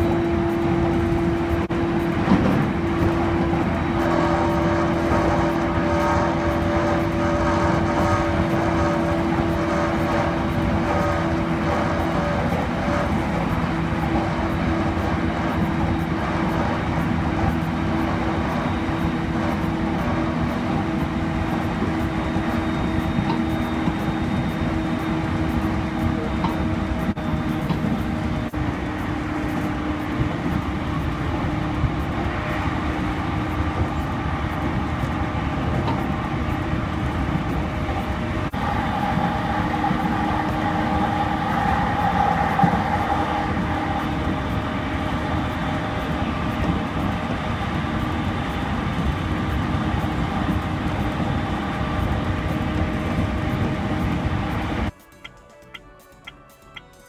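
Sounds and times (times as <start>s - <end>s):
wheels rumbling on rail: 0.0s - 56.9s
steady tones: 0.0s - 57.0s
train whine: 0.0s - 57.0s.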